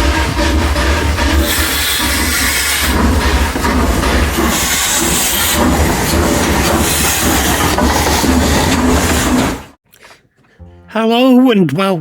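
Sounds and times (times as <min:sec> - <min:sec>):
train running on track: 0:00.0 - 0:09.8.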